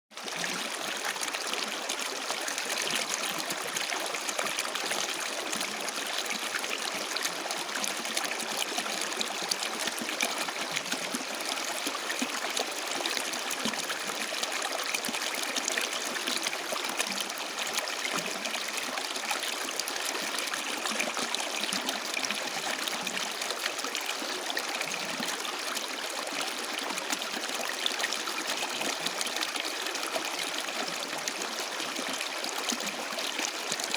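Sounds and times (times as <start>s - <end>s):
water flowing over rocks: 0.1s - 33.9s.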